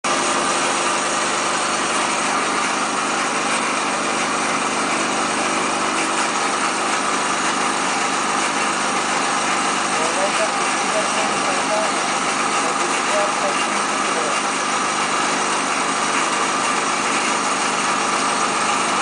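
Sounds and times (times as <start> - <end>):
electric motor running: 0.1 - 19.0.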